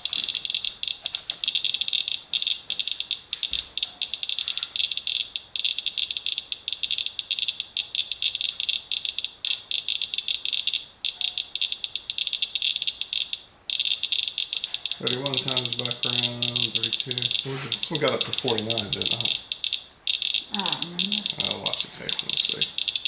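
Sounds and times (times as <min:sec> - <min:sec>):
geiger counter clicking rapidly: 0:00.0 - 0:23.0.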